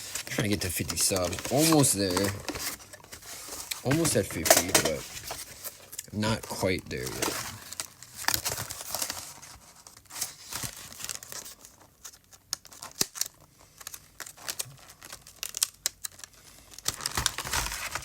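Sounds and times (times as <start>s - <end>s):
plastic wrapping tearing and crinkling: 0.0s - 18.0s.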